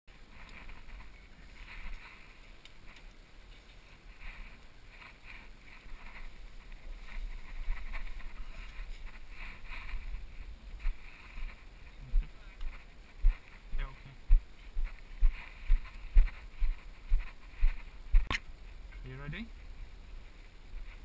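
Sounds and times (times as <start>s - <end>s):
wind rumbling on microphone: 0.1s - 21.0s.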